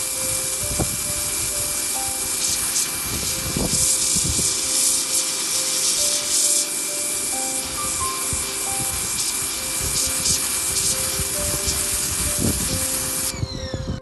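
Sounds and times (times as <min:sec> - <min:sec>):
pressure washer spraying: 0:00.0 - 0:13.4
background music: 0:00.0 - 0:14.0.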